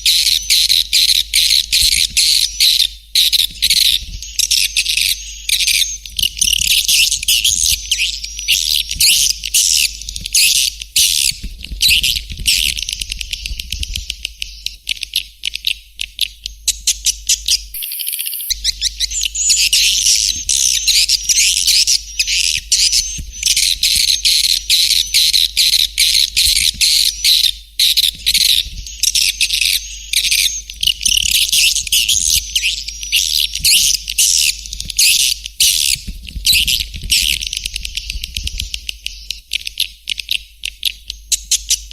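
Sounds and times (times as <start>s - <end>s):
swiftlets twittering chirps: 0.0s - 15.3s, 16.5s - 39.4s.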